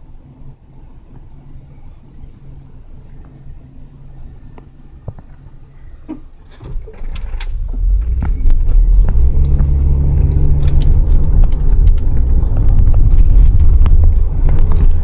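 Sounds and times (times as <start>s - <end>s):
heavy vehicle rumble inside cabin: 0.0s - 15.0s.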